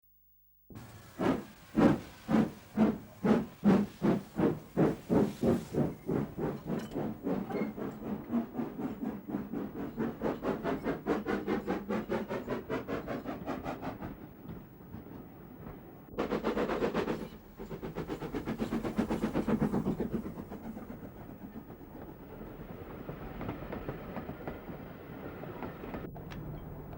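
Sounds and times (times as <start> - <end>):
steam locomotive chuffing: 0.7 - 26.1.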